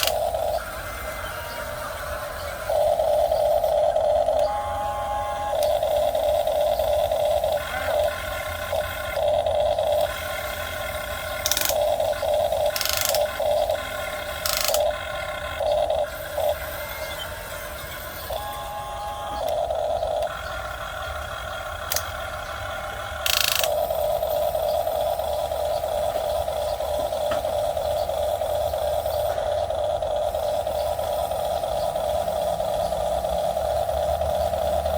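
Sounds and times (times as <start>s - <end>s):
sharp clicks: 0.0s - 1.0s, 5.4s - 17.4s, 18.2s - 34.9s
model excavator motors whining: 0.0s - 34.9s.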